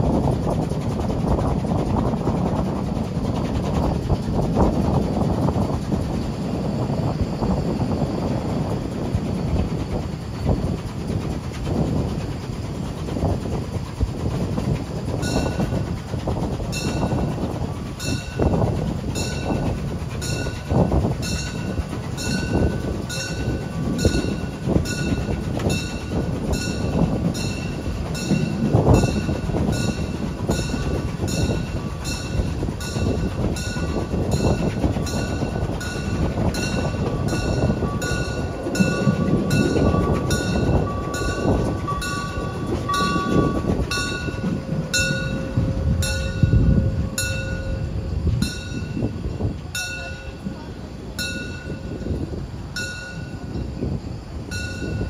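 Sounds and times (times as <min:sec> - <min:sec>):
thin squeal of train: 0:00.0 - 0:55.0
train wheels rumbling on rail: 0:00.0 - 0:55.0.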